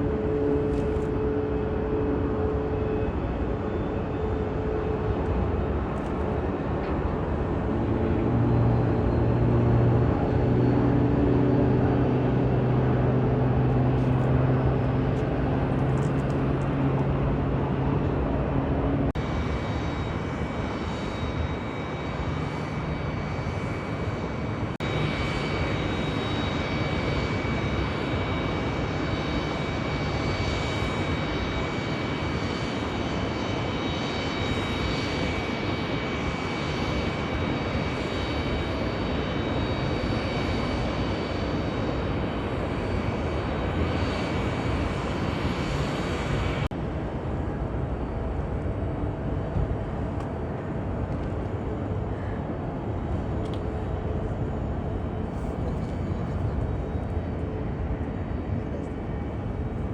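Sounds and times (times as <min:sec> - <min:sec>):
high engine whine: 0:00.0 - 0:59.9
jet engines roaring: 0:00.0 - 0:59.9.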